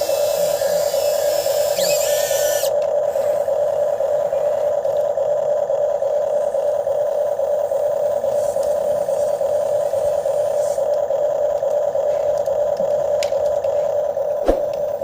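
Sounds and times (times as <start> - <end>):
toy excavator motor hum: 0.0 - 15.0.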